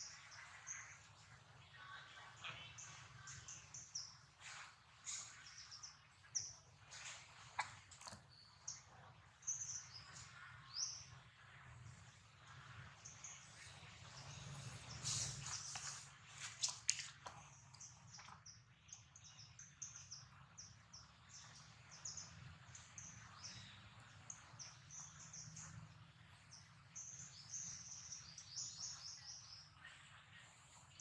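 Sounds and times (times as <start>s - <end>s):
birds chirping: 0.0s - 16.6s, 17.3s - 31.0s
low background hum: 0.0s - 31.0s.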